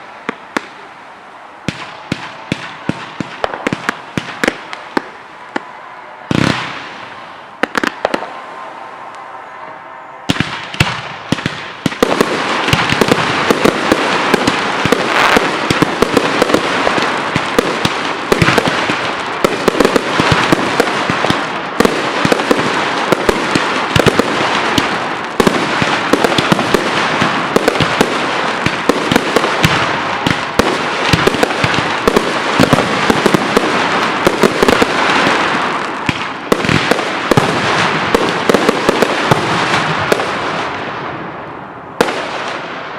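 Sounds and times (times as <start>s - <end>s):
fireworks bangs: 0.0s - 42.9s
fireworks crackle: 0.0s - 42.9s.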